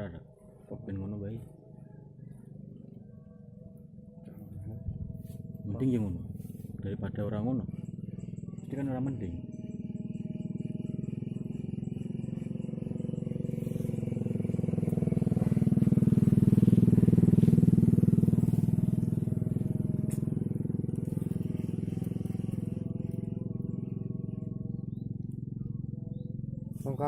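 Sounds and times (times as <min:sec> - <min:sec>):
small engine buzzing: 0:01.4 - 0:27.0.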